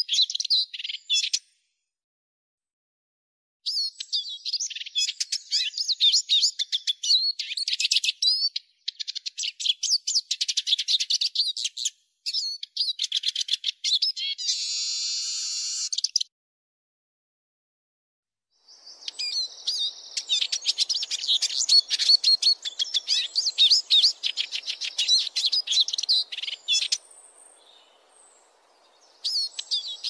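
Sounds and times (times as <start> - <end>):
bird twittering song: 0.0 - 1.5, 3.7 - 16.3, 18.6 - 30.0.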